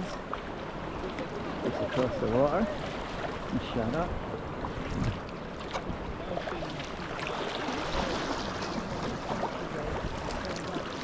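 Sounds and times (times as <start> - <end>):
water splashing around kayak: 0.0 - 11.0.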